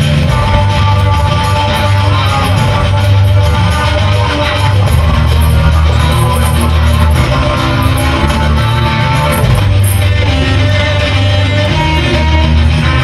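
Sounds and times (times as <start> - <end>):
guitar music with heavy bass: 0.0 - 13.0.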